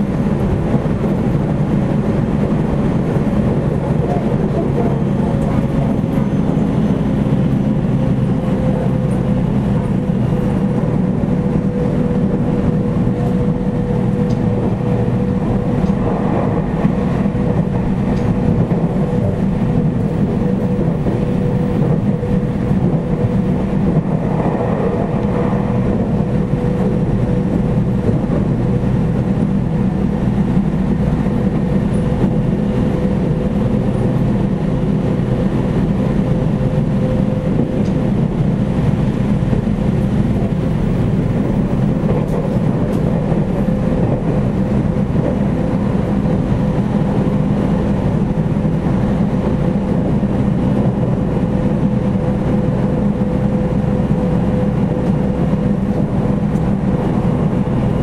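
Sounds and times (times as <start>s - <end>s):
mid-pitched hum: 0.0s - 58.0s
train wheels rumbling on rails: 0.0s - 58.0s.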